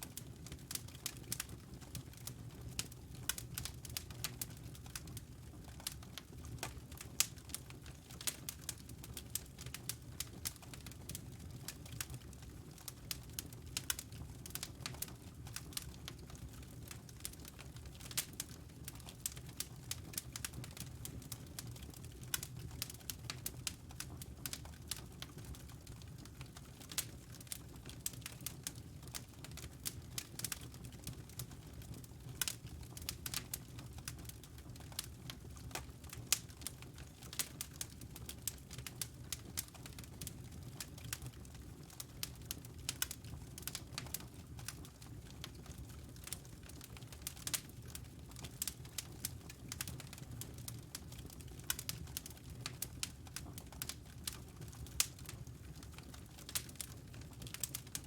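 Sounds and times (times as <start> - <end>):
fire popping and snapping: 0.0 - 58.0
low rumble of burning fire: 0.0 - 58.0
wood fire crackling: 0.0 - 58.0.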